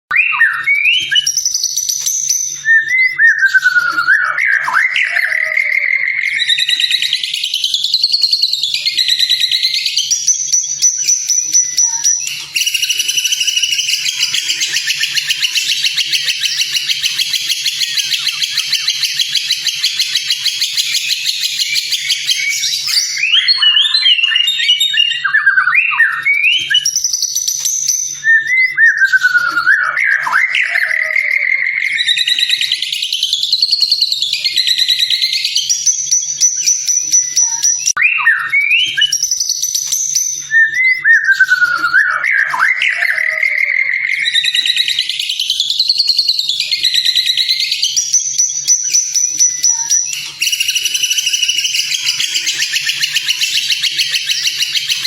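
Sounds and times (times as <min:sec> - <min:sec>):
bird whistled song phrases: 0:00.1 - 0:55.0
rapid bird trill: 0:00.1 - 0:55.0.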